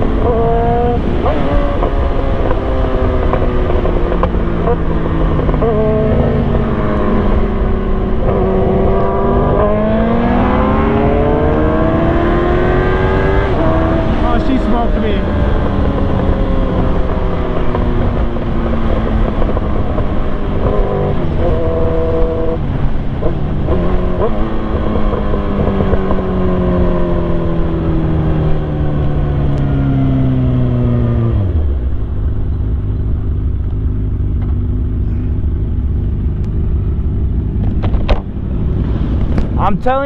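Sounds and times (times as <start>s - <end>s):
motorcycle engine revs falling: 0.0s - 39.6s.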